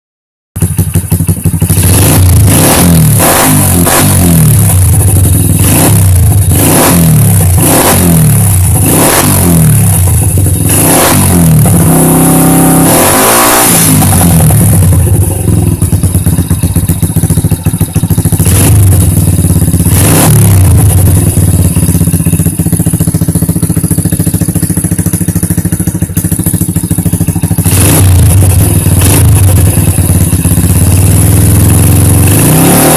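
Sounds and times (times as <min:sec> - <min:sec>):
motorcycle engine revving: 0:00.6 - 0:32.9.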